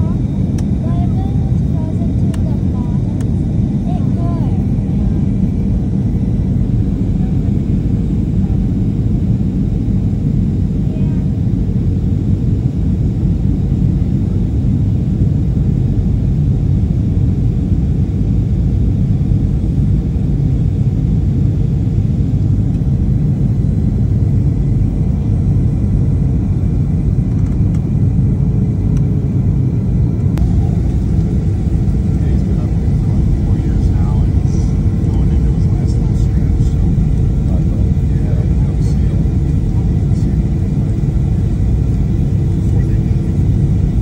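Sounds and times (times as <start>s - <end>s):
faint steady hum: 0.0s - 44.0s
jet airliner cabin rumble: 0.0s - 44.0s.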